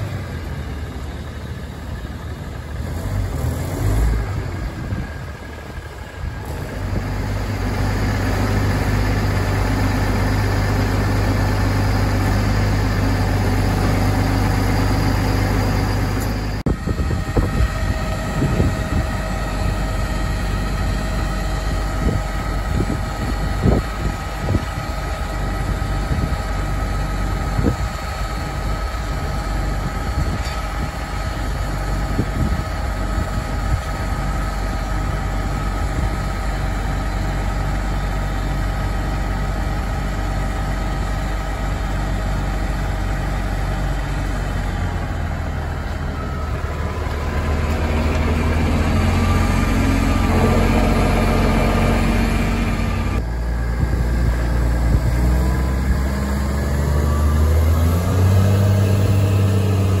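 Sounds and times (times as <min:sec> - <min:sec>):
tractor diesel engine: 0:00.0 - 1:00.0.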